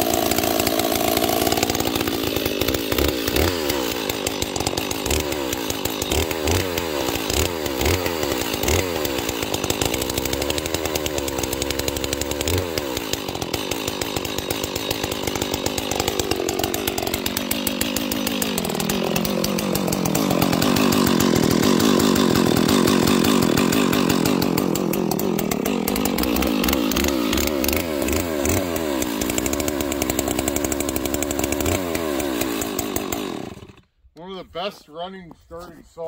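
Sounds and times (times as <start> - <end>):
chainsaw running: 0.0 - 34.0.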